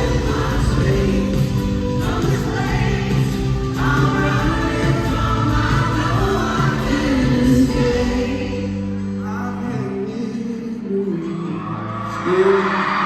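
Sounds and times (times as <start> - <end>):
live pop band: 0.0 - 13.0
man singing: 0.0 - 13.0.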